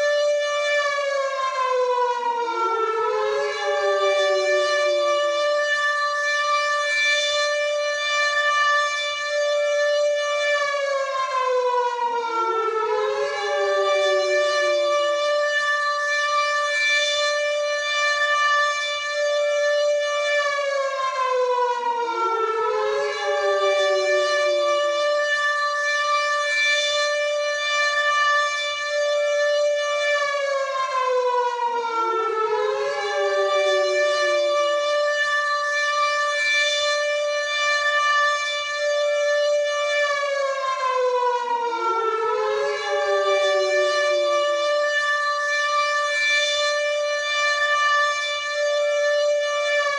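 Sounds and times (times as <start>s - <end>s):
air raid siren wailing: 0.0s - 49.9s.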